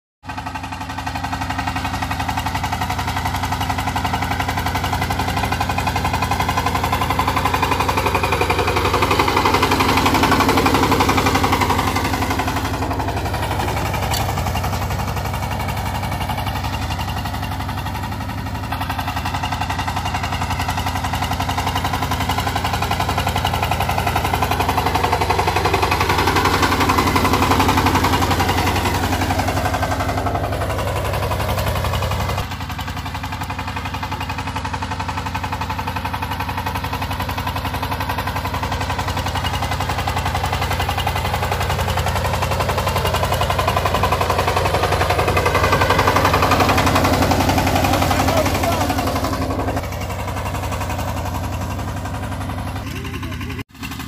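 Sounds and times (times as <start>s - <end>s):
power tiller engine chugging: 0.2s - 54.0s.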